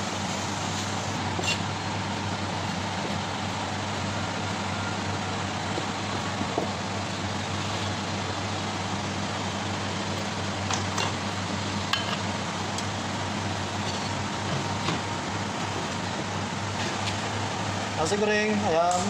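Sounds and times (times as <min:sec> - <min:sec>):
kitchen ventilation humming: 0:00.0 - 0:19.0.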